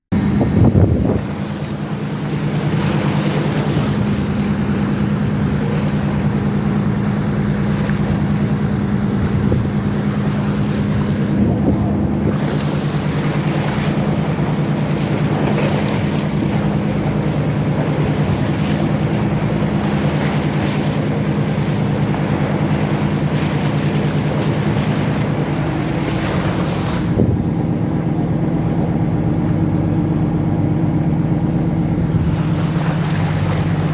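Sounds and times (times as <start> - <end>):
wind buffeting microphone: 0.1 - 30.7, 31.3 - 33.9
low engine drone: 0.1 - 33.9
surf: 0.1 - 33.9.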